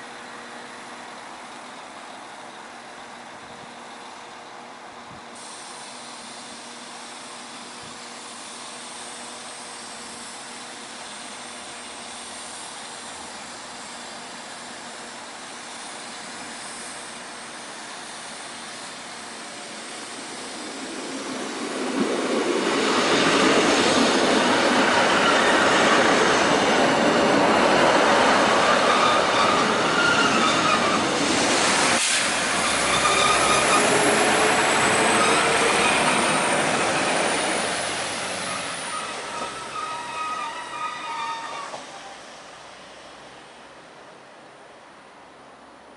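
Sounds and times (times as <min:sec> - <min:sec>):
train wheels squealing on rails: 0:00.0 - 0:43.4
train passing: 0:00.0 - 0:45.9.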